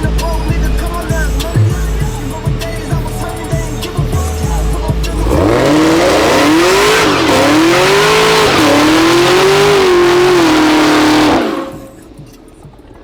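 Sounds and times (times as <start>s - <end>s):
car engine revving: 0.0s - 12.2s
tyres squealing: 0.3s - 12.0s.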